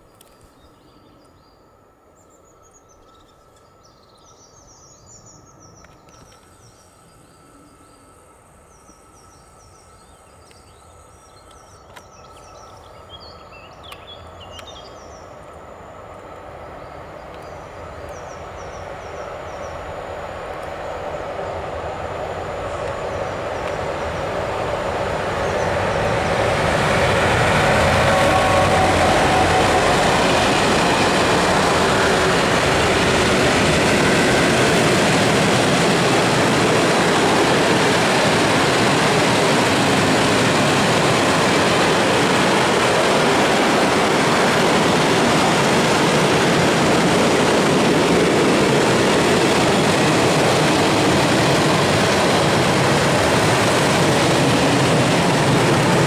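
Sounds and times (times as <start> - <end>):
electric locomotive passing: 0.0 - 56.0
train wheels on rails: 8.5 - 56.0.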